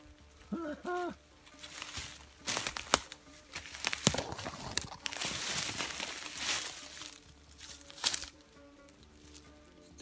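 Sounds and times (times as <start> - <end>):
footsteps crunching through dry leaves: 0.0 - 9.8
branches snapping and rustling: 1.4 - 9.5.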